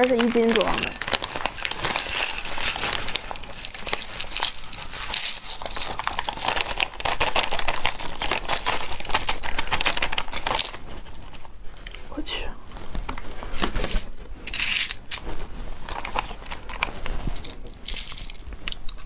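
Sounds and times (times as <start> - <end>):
plastic bag crinkling: 0.0 - 11.6, 12.7 - 19.0.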